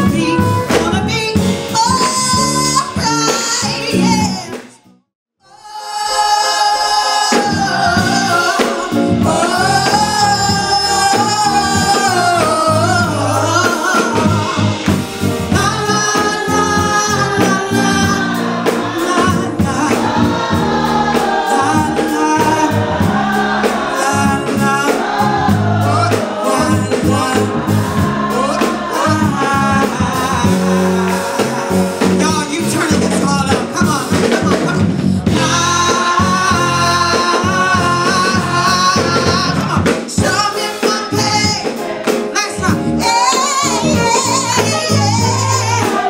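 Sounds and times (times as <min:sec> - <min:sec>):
gospel singing: 0:00.0 - 0:04.8, 0:05.4 - 0:46.0
live band with bass and drums: 0:00.0 - 0:04.8, 0:06.4 - 0:46.0.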